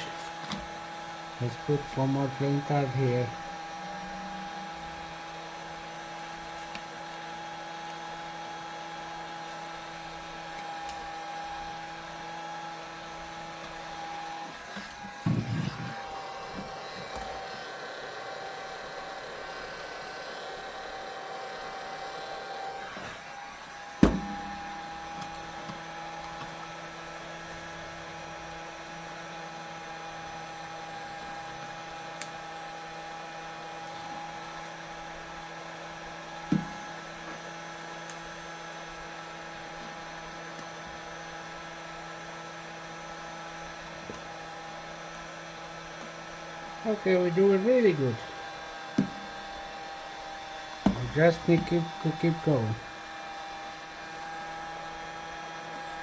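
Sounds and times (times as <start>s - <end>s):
heat gun motor hum: 0.0s - 56.0s.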